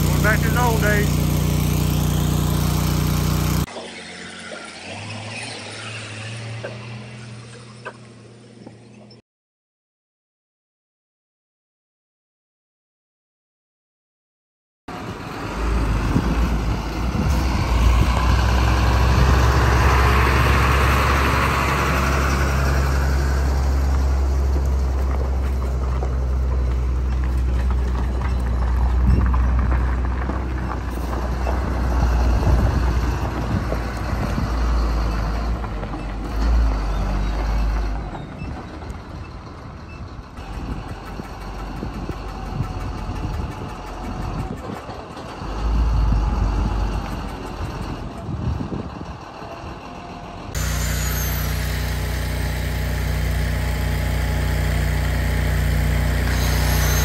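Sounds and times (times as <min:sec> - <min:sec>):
diesel truck engine droning: 0:00.0 - 0:08.3, 0:14.9 - 0:57.0.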